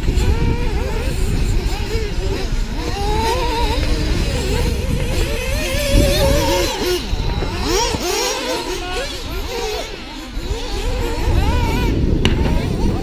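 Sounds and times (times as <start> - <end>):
rc car motors revving: 0.0 - 13.0.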